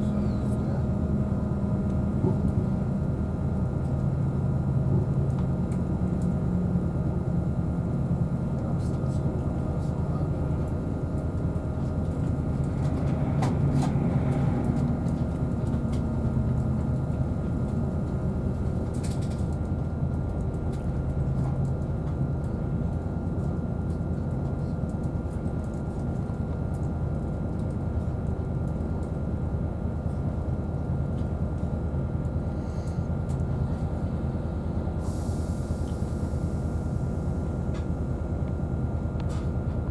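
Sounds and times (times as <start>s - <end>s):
train diesel engine rumble: 0.0s - 39.9s.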